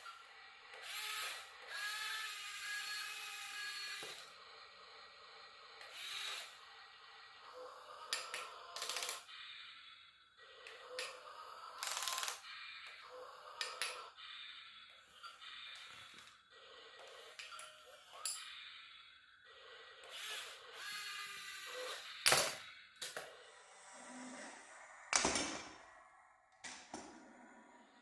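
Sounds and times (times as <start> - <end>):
electric gear motors whining: 0.0 - 25.2.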